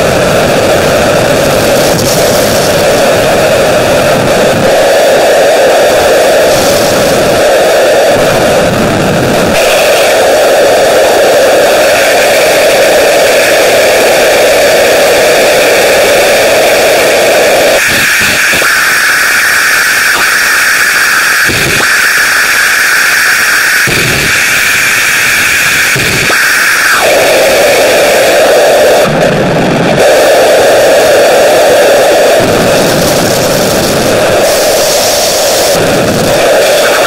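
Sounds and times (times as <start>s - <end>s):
loud static hiss: 0.0s - 37.0s.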